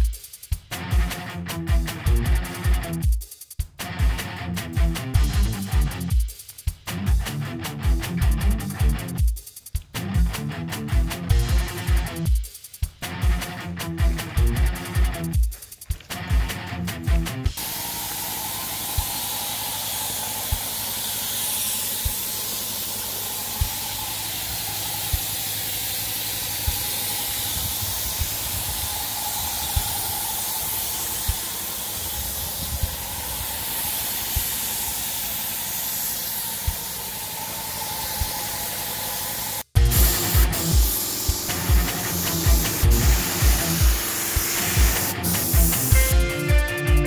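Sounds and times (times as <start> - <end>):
steady spraying hiss: 0.0 - 0.7, 5.2 - 6.9, 7.7 - 9.9, 11.2 - 16.4, 17.6 - 46.9.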